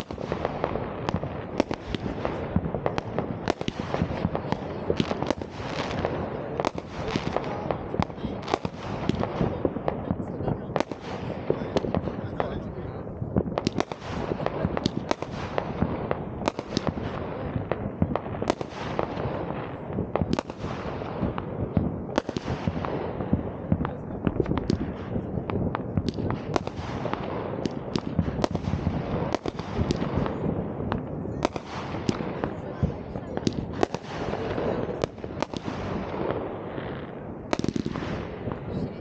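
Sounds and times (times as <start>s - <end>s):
firework bangs and cracks: 0.0s - 39.0s
rumble of explosions: 0.0s - 39.0s.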